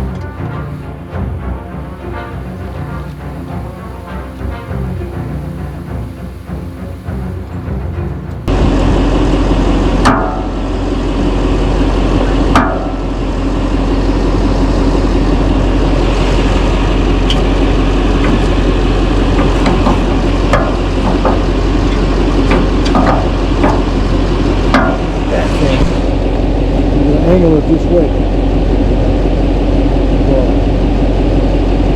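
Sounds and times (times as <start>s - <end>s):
diesel truck engine idling: 0.0s - 31.9s.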